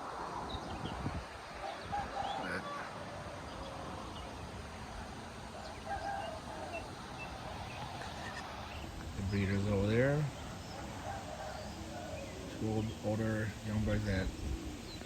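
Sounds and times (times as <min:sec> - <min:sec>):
faint bird calls: 0:00.0 - 0:15.0
wind on microphone: 0:00.0 - 0:15.0.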